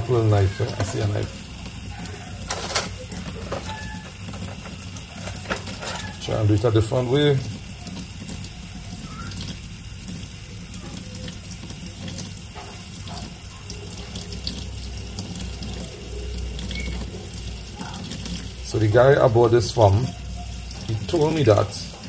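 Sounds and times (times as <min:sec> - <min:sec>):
tap water running into sink: 0:00.0 - 0:22.0.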